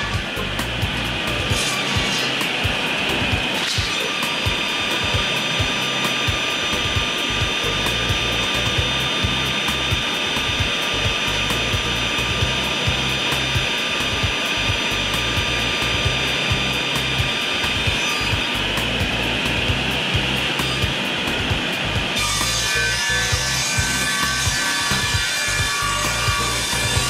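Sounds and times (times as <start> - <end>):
circular saw whining: 0.0 - 27.0.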